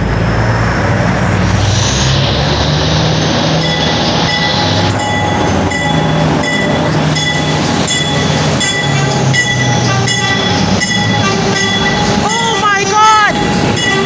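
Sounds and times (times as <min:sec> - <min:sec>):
locomotive engine hum: 0:00.0 - 0:14.0.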